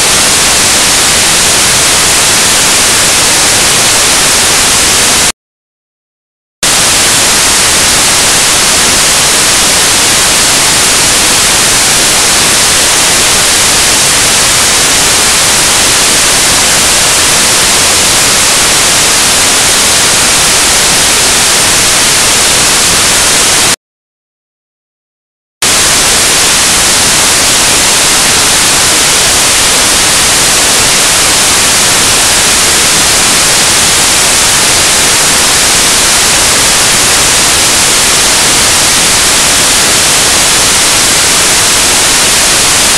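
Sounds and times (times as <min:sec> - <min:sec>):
static hiss: 0:00.0 - 0:05.3, 0:06.6 - 0:23.8, 0:25.6 - 0:42.9.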